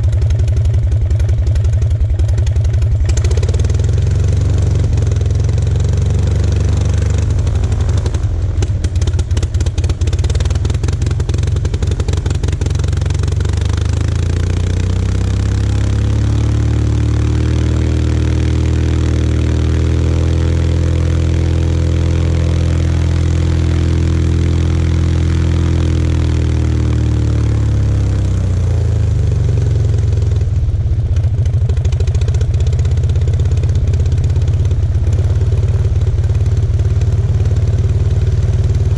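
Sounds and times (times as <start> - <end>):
small aircraft engine running: 0.0 - 38.9.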